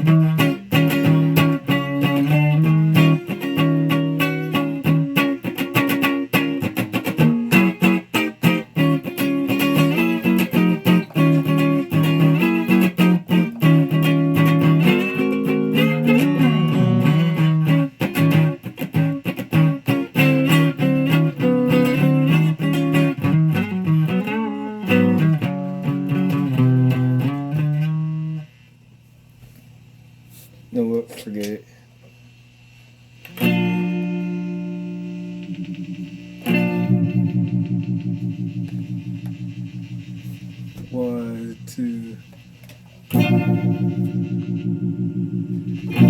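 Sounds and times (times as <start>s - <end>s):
electric guitar single-note runs: 0.0s - 28.4s, 33.4s - 46.0s.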